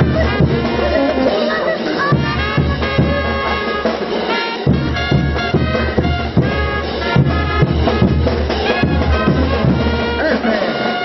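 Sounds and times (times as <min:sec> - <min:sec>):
horns playing melody: 0:00.0 - 0:11.0
steady drum beat: 0:00.0 - 0:11.0.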